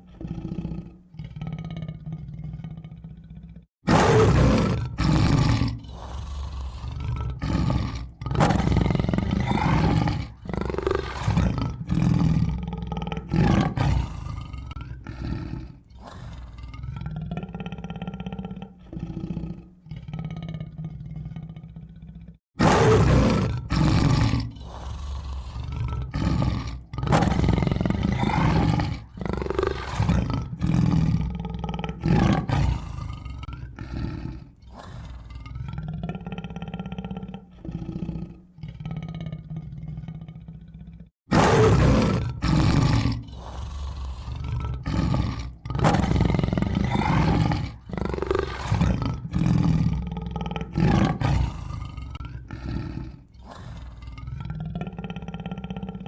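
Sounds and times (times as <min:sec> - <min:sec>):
tiger growling: 0:00.0 - 0:56.0
tiger roaring: 0:00.0 - 0:56.0.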